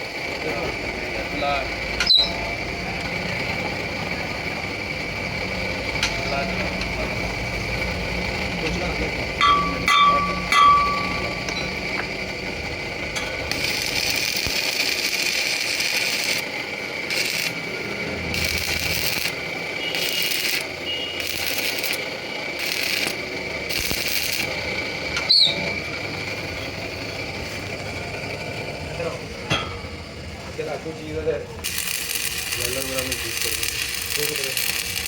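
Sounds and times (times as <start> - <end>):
lathe whining: 0.0 - 35.0.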